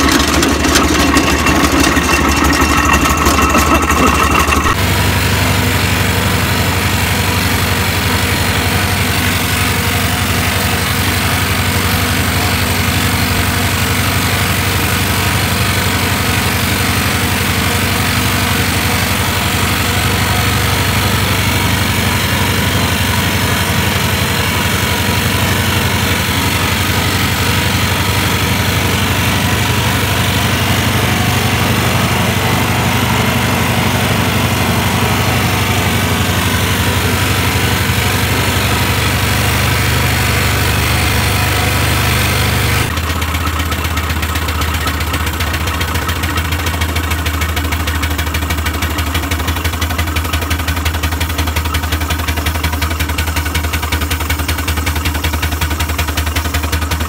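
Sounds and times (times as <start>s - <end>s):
traction engine running: 0.0s - 57.0s.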